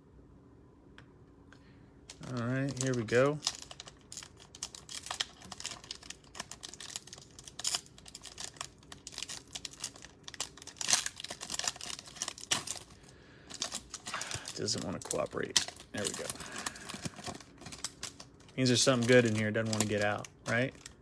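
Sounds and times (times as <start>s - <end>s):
foil wrapper crinkling: 2.1s - 21.0s.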